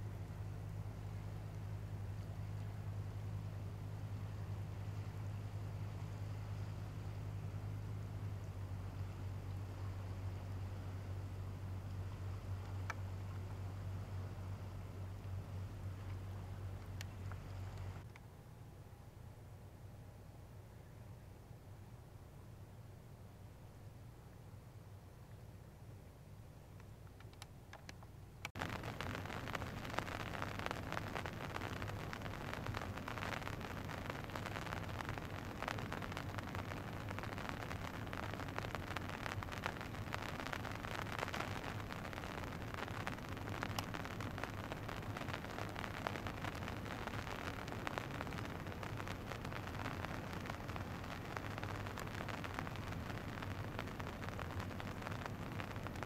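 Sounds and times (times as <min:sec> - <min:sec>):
steady rain falling: 0:00.0 - 0:18.2, 0:18.8 - 0:56.0
low steady hum: 0:00.0 - 0:56.0.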